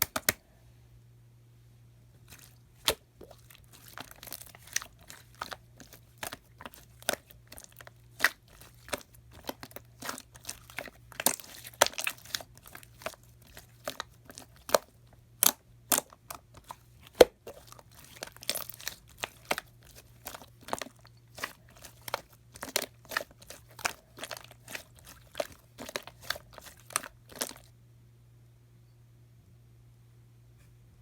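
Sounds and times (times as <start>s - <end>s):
slime clicking and crackling: 2.3s - 27.7s.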